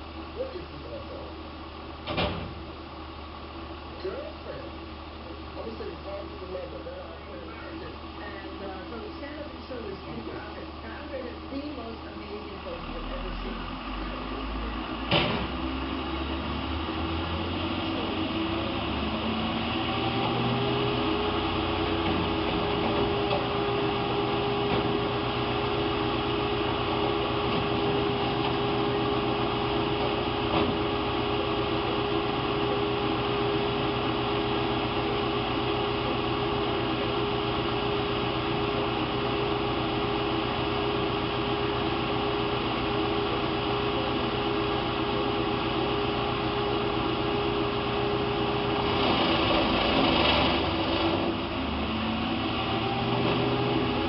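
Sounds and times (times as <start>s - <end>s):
steady hum: 0.0s - 54.0s
wood chipper engine drone: 0.0s - 54.0s.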